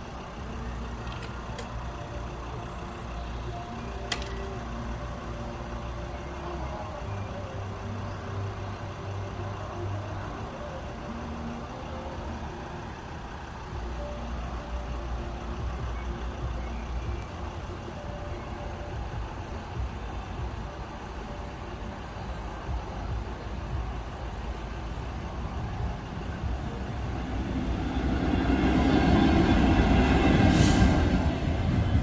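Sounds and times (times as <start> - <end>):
diesel locomotive engine throbbing: 0.0 - 32.0.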